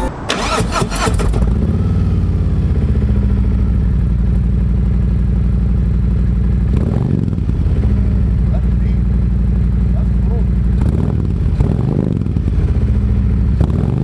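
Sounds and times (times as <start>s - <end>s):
motorcycle engine idling: 1.4s - 11.6s, 12.2s - 13.6s.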